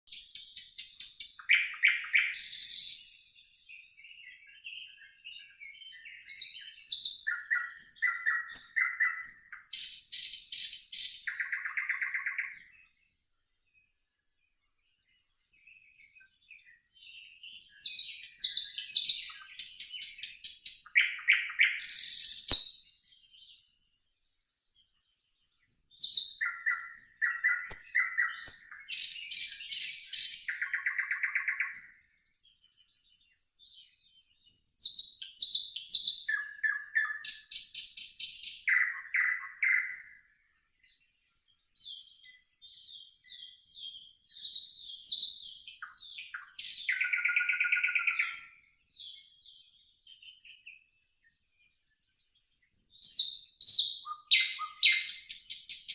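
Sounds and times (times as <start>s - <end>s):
nightingale singing: 0.0s - 13.2s, 15.0s - 24.0s, 24.9s - 55.9s.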